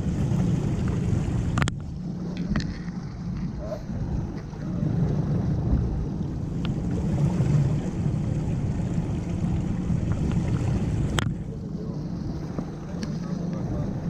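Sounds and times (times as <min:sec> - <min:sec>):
boat engine hum: 0:00.0 - 0:14.0
water noise: 0:00.0 - 0:14.0
wind: 0:00.0 - 0:14.0.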